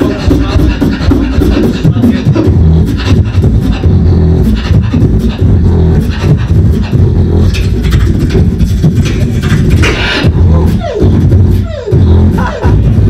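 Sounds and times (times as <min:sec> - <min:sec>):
beatboxing into a microphone: 0:00.0 - 0:13.0.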